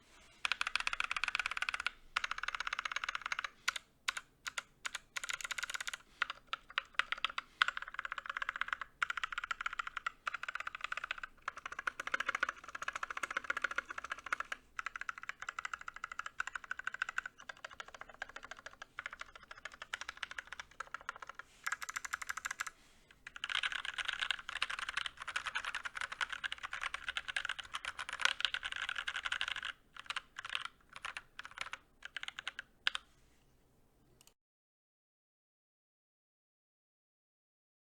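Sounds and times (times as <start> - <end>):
mechanical keyboard typing: 0.4 - 33.1.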